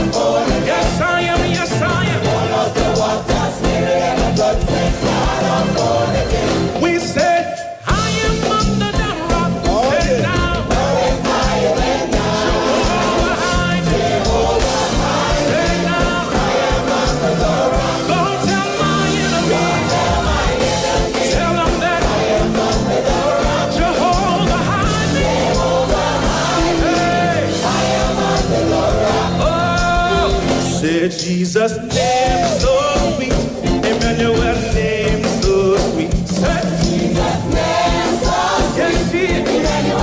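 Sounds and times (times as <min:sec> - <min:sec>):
gospel band playing: 0:00.0 - 0:40.0
lead singer and choir singing: 0:00.0 - 0:40.0.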